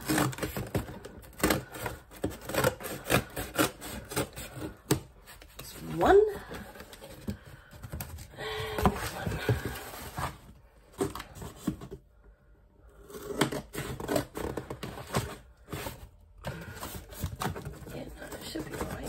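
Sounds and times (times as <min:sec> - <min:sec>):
cardboard box rustling and scraping: 0:00.0 - 0:12.1, 0:13.2 - 0:19.0.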